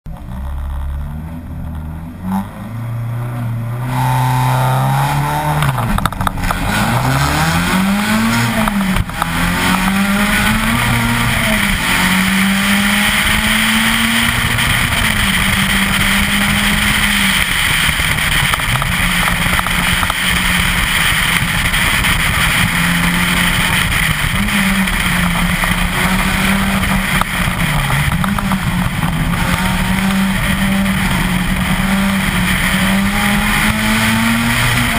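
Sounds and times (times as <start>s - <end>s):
rally car engine revving: 0.1s - 34.9s.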